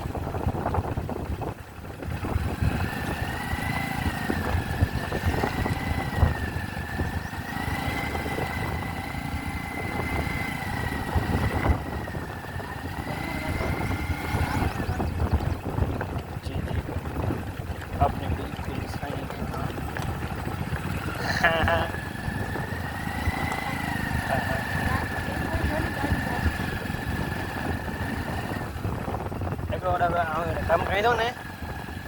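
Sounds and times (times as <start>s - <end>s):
motorcycle engine whine: 0.0s - 32.0s
wind rumble on microphone: 0.0s - 32.0s.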